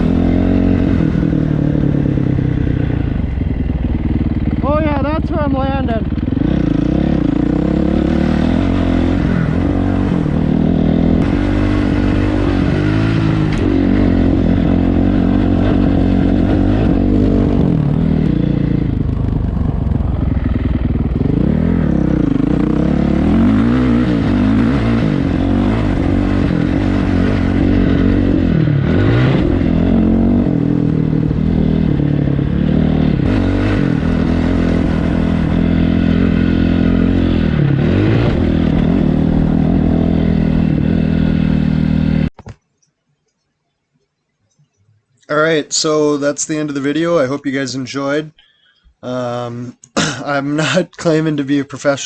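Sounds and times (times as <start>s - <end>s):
dirt bike engine revving: 0.0s - 42.3s.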